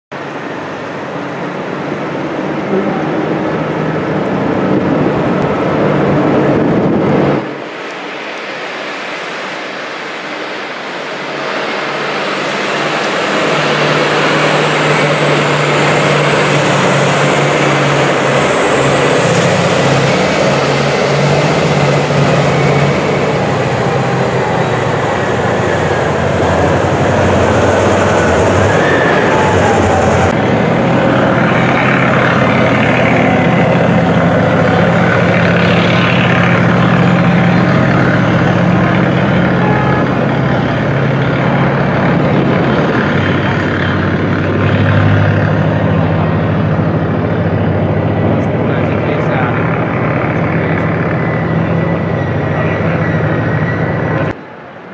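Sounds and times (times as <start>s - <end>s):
low hum: 0.1s - 54.6s
heavy machinery engine drone: 0.1s - 54.9s.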